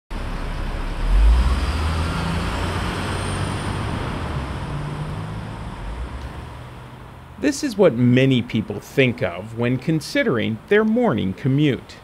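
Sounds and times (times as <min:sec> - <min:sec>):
passing vehicles rushing: 0:00.1 - 0:11.1
low engine rumble: 0:00.1 - 0:12.0.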